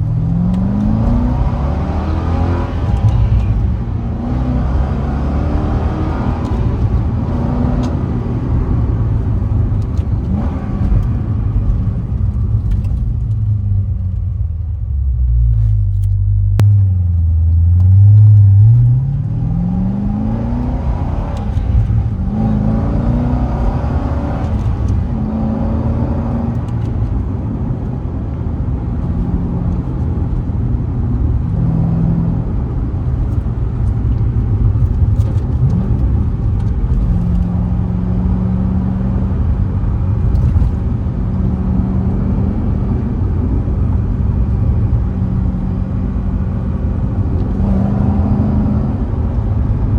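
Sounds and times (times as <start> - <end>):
car engine rumbling: 0.0 - 49.9.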